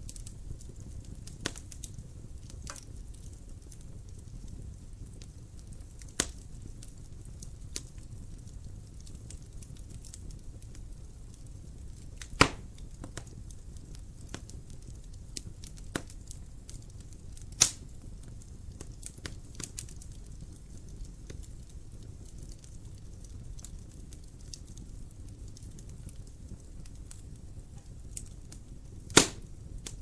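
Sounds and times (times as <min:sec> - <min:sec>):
loud fire pops: 0:00.0 - 0:30.0
low rumble of flame: 0:00.0 - 0:30.0
wood fire crackling: 0:00.0 - 0:30.0.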